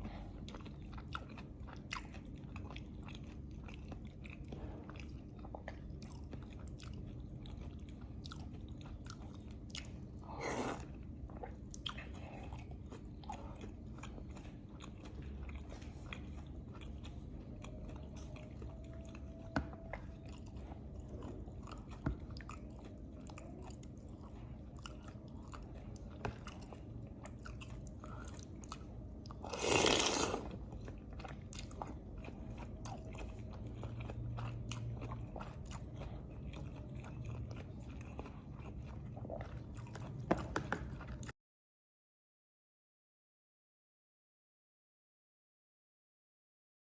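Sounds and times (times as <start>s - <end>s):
close chewing and biting: 0.0s - 41.3s.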